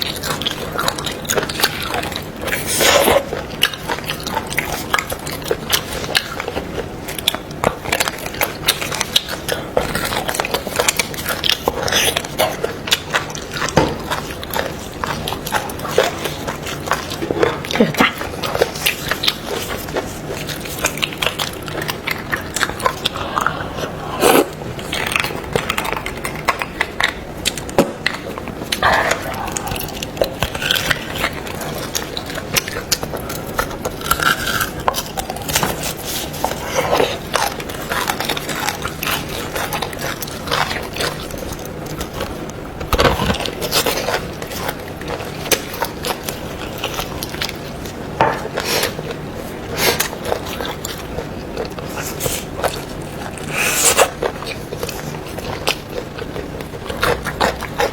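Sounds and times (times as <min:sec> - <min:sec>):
chewing smacking and sucking: 0:00.0 - 0:57.9.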